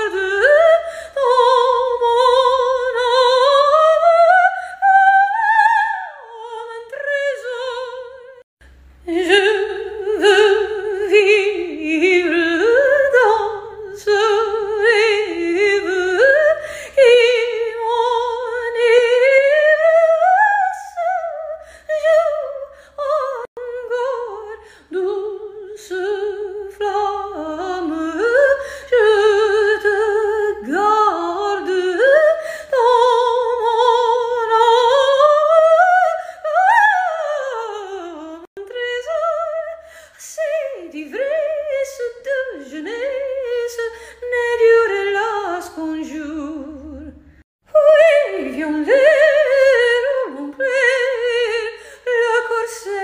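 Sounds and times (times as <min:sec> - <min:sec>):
woman singing opera: 0:00.0 - 0:53.0.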